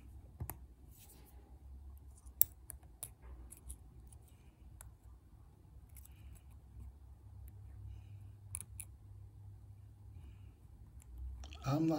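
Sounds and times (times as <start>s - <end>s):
faint low hum: 0.0s - 11.9s.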